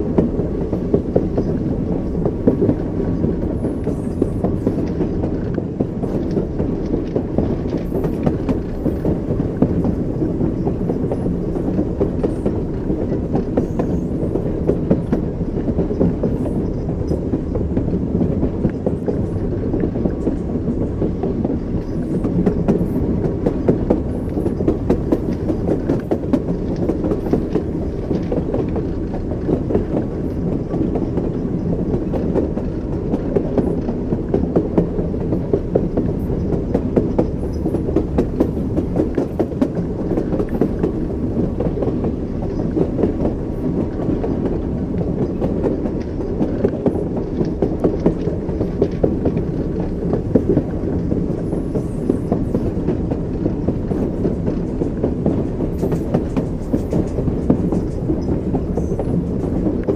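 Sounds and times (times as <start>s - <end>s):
train wheels rumbling on rails: 0.0s - 59.9s
wheels clacking over rail joints: 0.0s - 59.9s.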